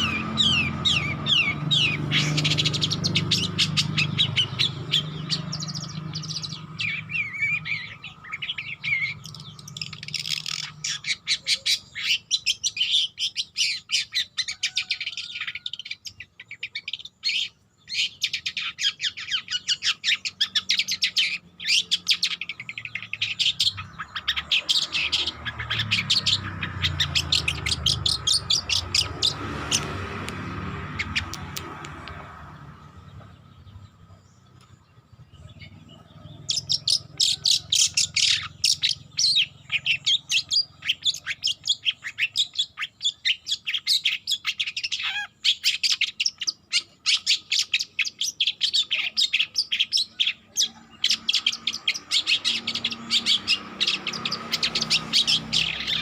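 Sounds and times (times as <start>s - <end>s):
shrike chattering song: 0.0s - 56.0s.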